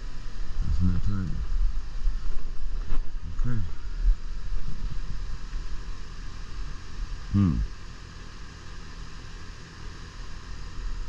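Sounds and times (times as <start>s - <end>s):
air conditioner unit humming: 0.0s - 11.0s.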